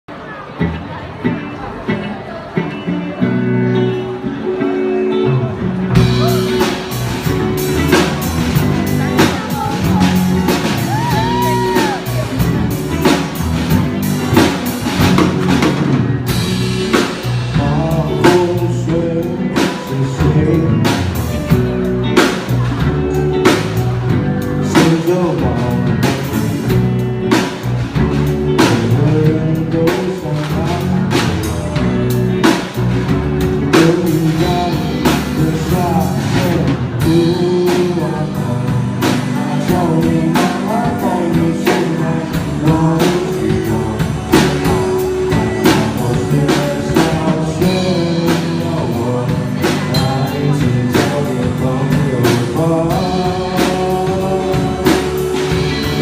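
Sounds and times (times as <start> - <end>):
guitar: 0.1 - 56.0
person singing: 2.6 - 56.0
drum kit beat: 5.7 - 56.0.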